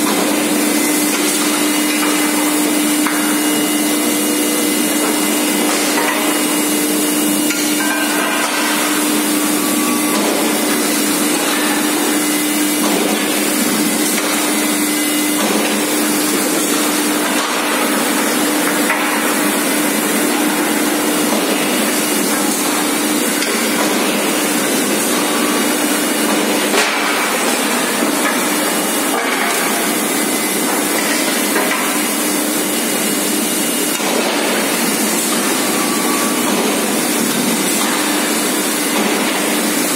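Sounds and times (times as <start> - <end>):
steady machine noise with hum: 0.0 - 39.9.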